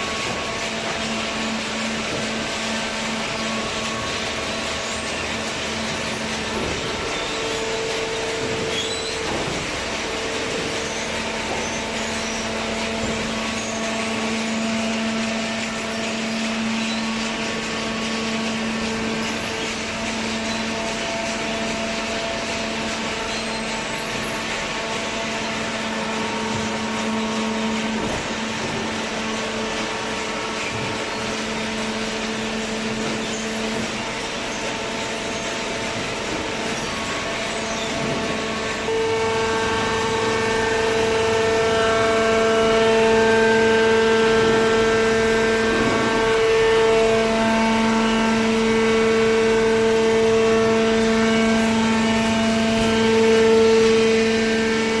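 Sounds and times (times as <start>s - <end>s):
baler pump and motor drone: 0.0s - 55.0s.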